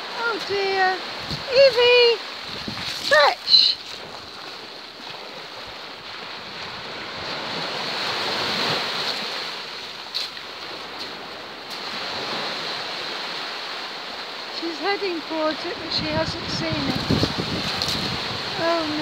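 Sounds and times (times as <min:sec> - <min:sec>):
surf waves breaking: 0:00.0 - 0:19.0.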